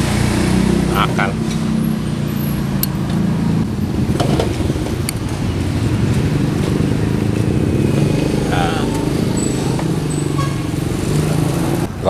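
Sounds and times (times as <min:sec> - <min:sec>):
vehicle engine humming in traffic: 0:00.0 - 0:12.0.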